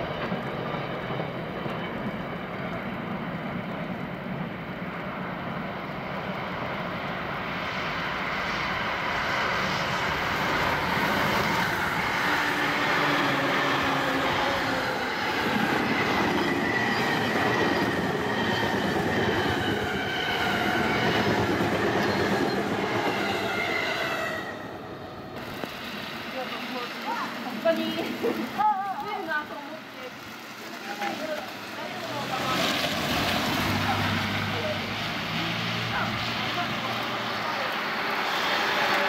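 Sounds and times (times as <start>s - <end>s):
train wheels rushing on rail: 0.0s - 39.0s.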